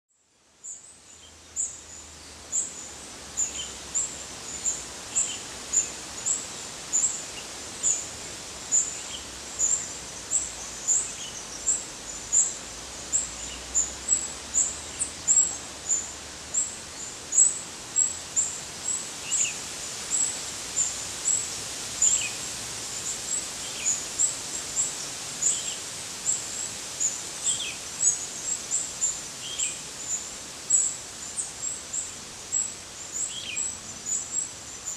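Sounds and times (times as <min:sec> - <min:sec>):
outdoor hiss: 0:00.2 - 0:34.9.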